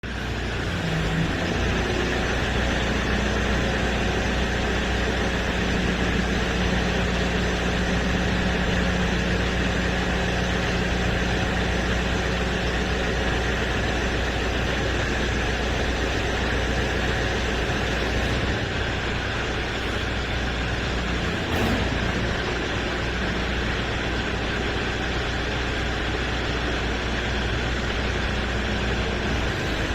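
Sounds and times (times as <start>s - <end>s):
farm machine engine humming: 0.0s - 29.9s.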